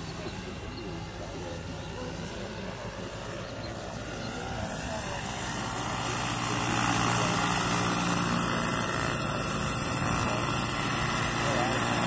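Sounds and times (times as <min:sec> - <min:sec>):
model helicopter hovering: 0:00.0 - 0:12.0.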